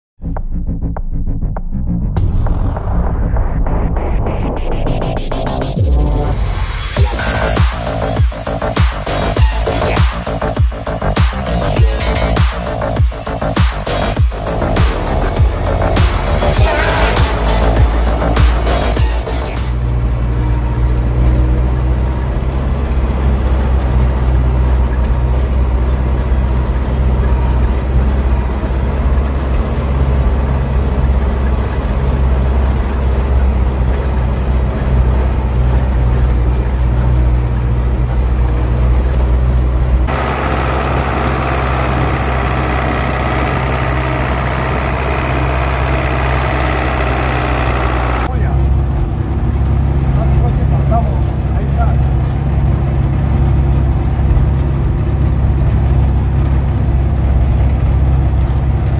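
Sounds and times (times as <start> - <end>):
tractor diesel engine running: 2.1 - 58.9.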